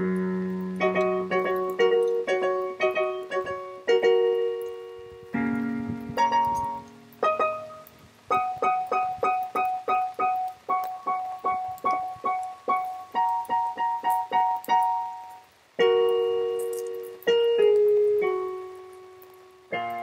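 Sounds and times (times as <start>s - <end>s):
held keyboard chords: 0.0s - 20.0s
keyboard piano notes: 0.0s - 20.0s.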